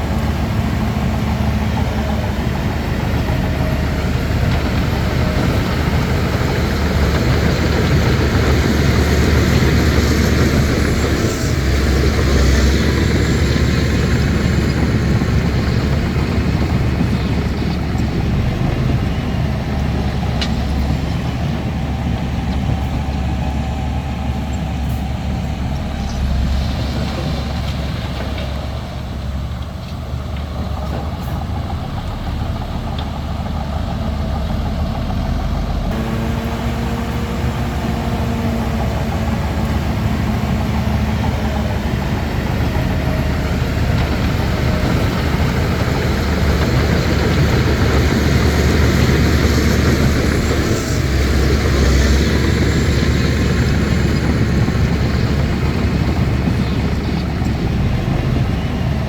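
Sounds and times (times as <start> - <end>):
bulldozer diesel engine drone: 0.0 - 59.0.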